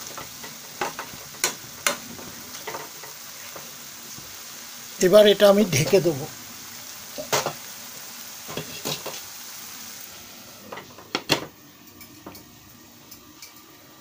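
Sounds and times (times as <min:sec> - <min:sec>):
stems sizzling in a frying pan: 0:00.0 - 0:14.0.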